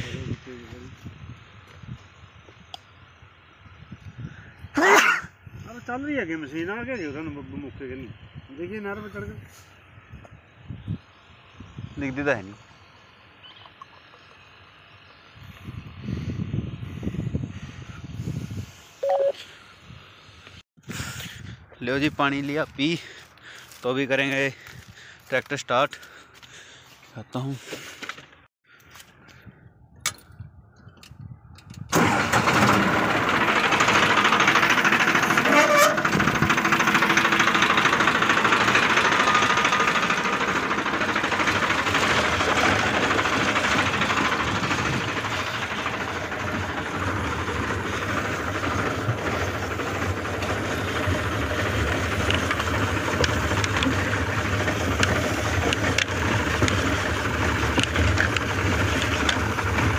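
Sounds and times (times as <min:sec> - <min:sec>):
tractor diesel engine starting and running: 0:00.0 - 0:29.4, 0:31.6 - 0:59.9.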